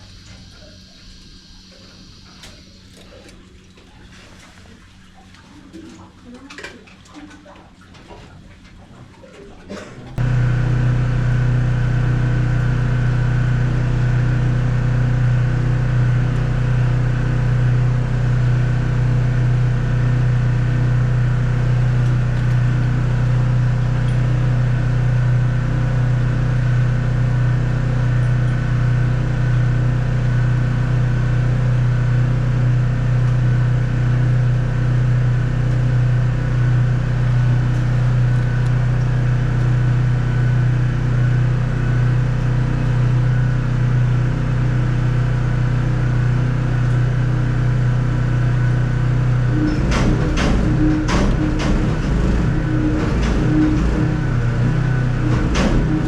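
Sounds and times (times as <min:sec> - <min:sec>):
loud low mechanical hum: 0:00.0 - 0:56.0.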